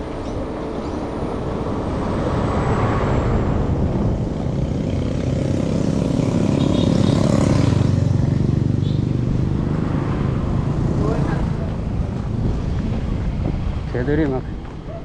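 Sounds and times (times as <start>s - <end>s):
motorcycle engines humming: 0.0s - 15.0s
truck passing: 0.0s - 15.0s.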